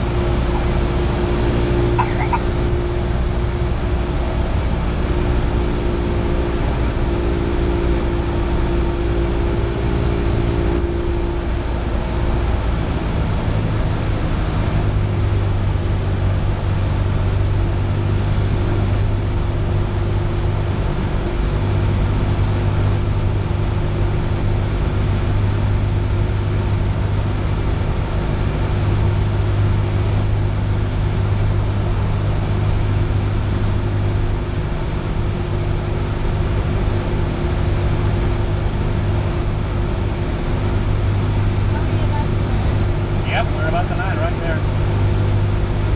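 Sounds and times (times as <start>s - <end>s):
airplane engine droning: 0.0s - 45.9s.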